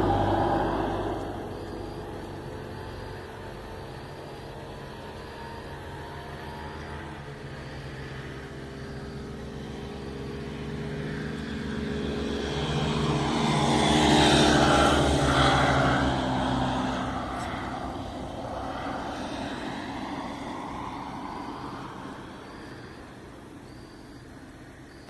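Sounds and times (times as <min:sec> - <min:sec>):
road vehicle passing: 0:00.0 - 0:24.9.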